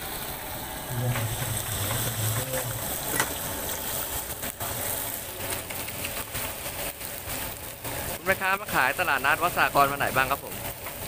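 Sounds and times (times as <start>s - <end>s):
oil crackling: 0.0s - 11.0s
seafood deep-frying in hot oil: 0.0s - 11.0s.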